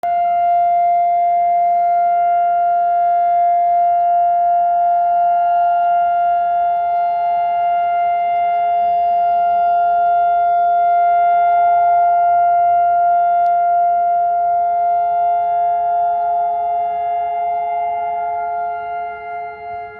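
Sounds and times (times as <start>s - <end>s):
steady siren tone: 0.0s - 19.9s.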